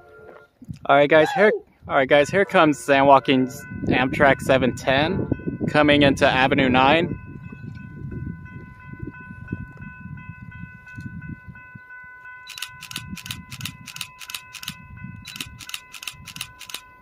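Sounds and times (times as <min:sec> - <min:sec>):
wind buffeting microphone: 0:01.7 - 0:17.0
steady high ringing tone: 0:02.1 - 0:17.0
crossing warning bell dings: 0:02.2 - 0:17.0.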